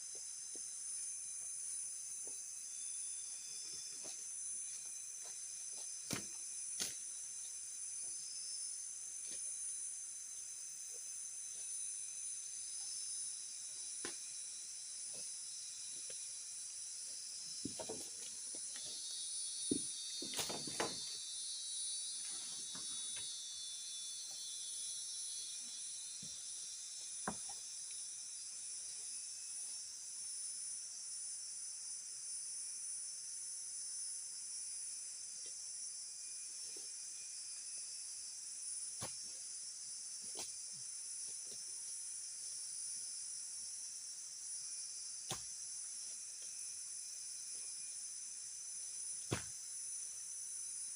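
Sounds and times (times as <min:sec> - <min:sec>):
chorus of forest insects: 0:00.0 - 0:50.9.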